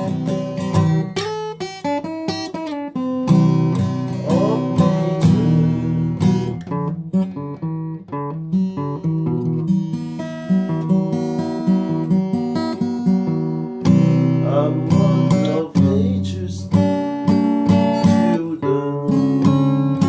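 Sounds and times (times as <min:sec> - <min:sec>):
acoustic guitar strummed and picked: 0:00.0 - 0:20.0.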